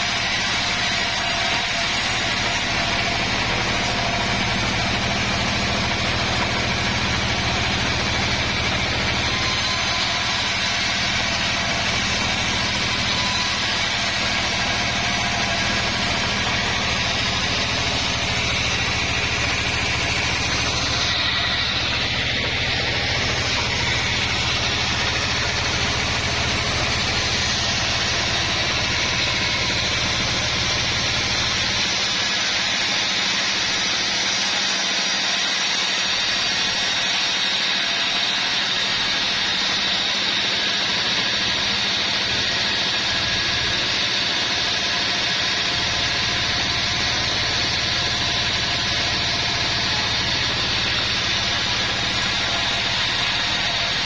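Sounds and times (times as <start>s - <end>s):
sawmill saw sawing log: 0.0s - 54.0s.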